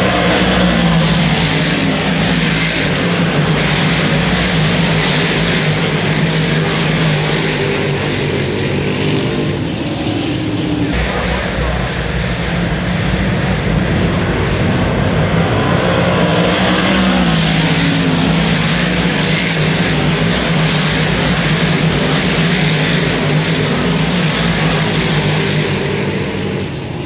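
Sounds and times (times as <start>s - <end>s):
race car engines roaring: 0.0s - 27.0s.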